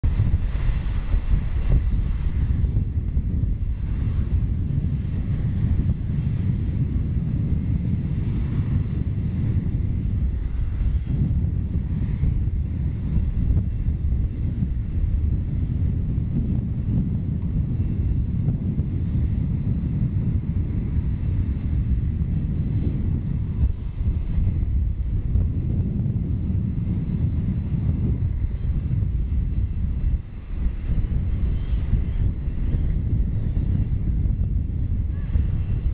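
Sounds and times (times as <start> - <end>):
faint high engine whine: 0.0 - 35.9
jet engines low rumble: 0.0 - 35.9.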